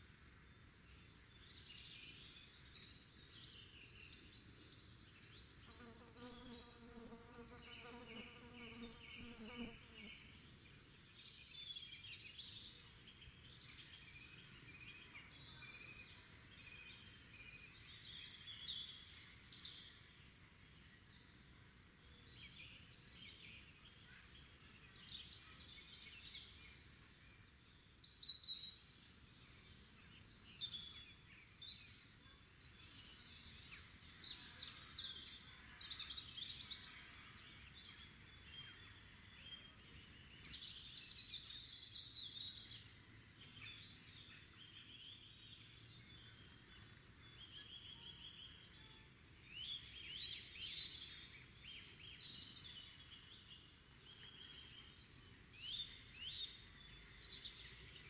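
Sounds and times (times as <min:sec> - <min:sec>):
faint background hiss: 0:00.0 - 0:58.0
songbirds chirping: 0:00.0 - 0:58.0.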